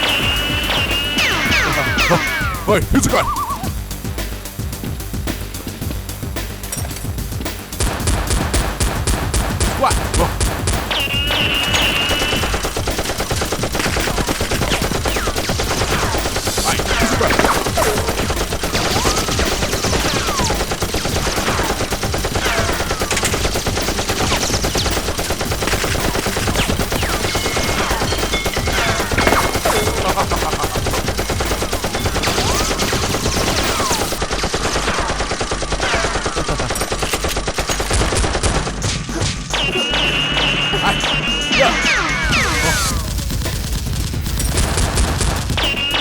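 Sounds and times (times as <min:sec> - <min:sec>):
rapid gunfire: 0:00.0 - 0:03.3, 0:07.5 - 0:46.0.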